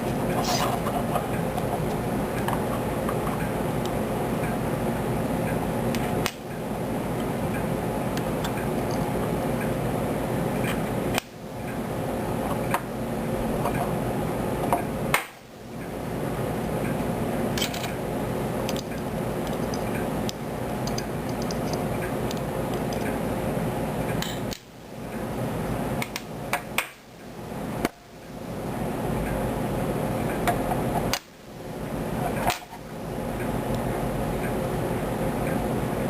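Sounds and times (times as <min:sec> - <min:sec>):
background hum: 0:00.0 - 0:36.0.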